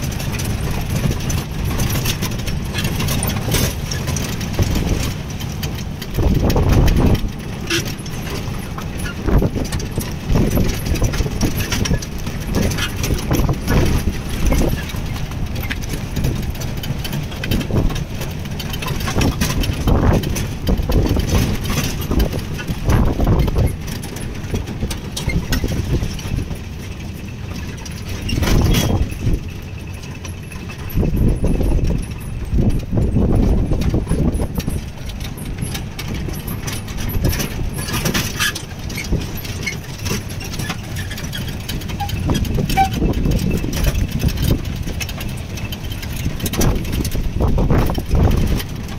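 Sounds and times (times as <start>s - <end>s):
wind buffeting microphone: 0.0s - 27.2s, 28.0s - 48.9s
jeep engine running: 0.0s - 48.9s
vehicle body rattling and knocking: 0.0s - 48.9s.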